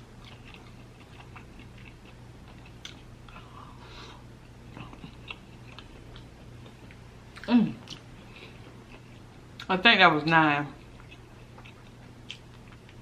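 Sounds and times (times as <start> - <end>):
steady low hum: 0.0 - 13.0
chewing with small clicks: 0.2 - 3.6, 4.7 - 13.0.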